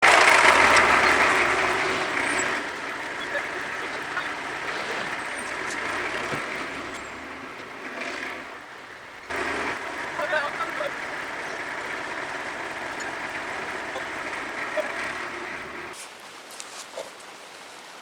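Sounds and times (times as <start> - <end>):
bandsaw mill motor whirring: 0.0 - 16.0.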